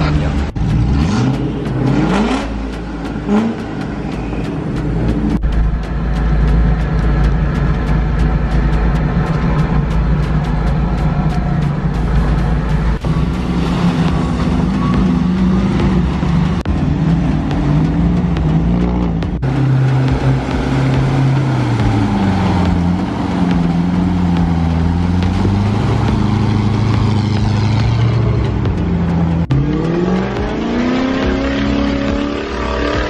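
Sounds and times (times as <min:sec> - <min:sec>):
off-road engines revving: 0:00.0 - 0:33.0.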